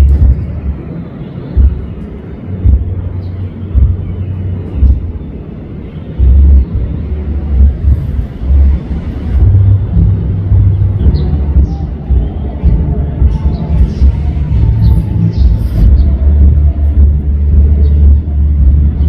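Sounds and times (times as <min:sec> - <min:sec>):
deep bass of band music: 0:00.0 - 0:19.0.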